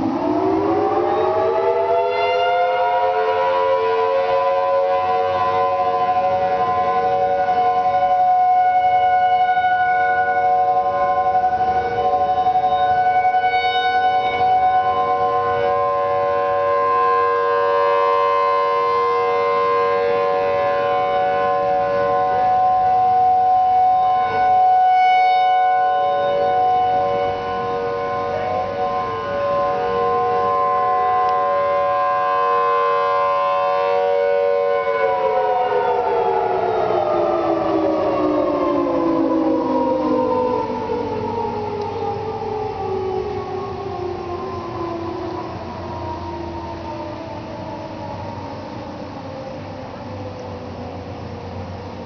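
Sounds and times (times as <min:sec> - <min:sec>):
tornado sirens: 0:00.0 - 0:52.0.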